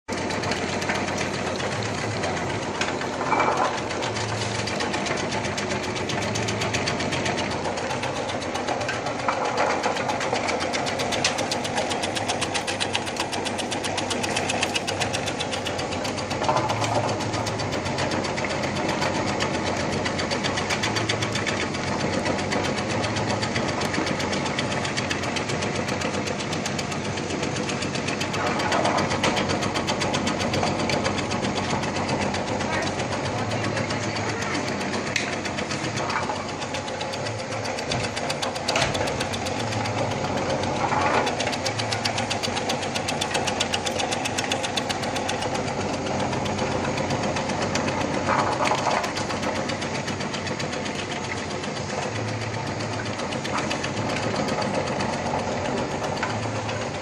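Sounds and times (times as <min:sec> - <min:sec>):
slicing machine clattering: 0:00.1 - 0:57.0.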